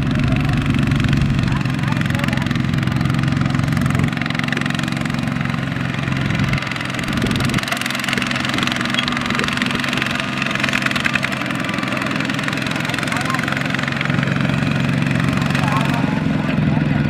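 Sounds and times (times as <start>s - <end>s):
diesel tractor engine under load: 0.0s - 17.0s.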